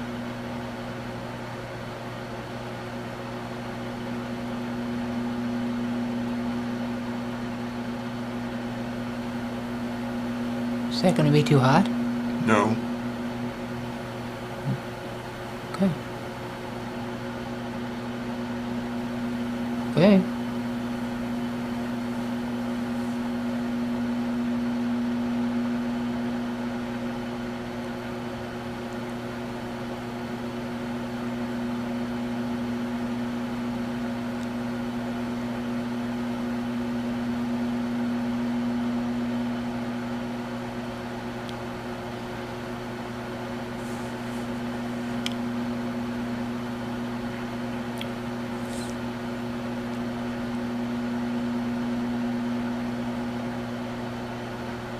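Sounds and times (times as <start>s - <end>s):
microwave oven humming: 0.0s - 54.9s.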